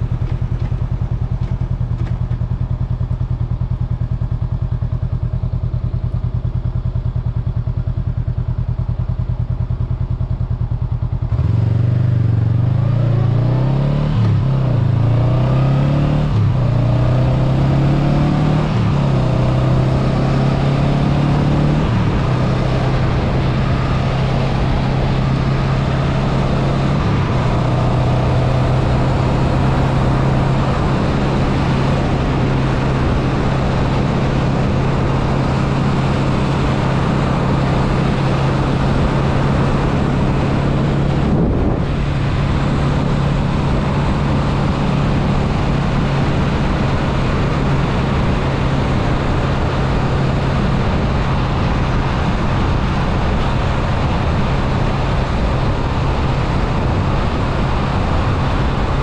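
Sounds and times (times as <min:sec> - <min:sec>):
motorcycle engine cruising: 0:00.0 - 0:59.0
wind and road rush: 0:00.0 - 0:59.0.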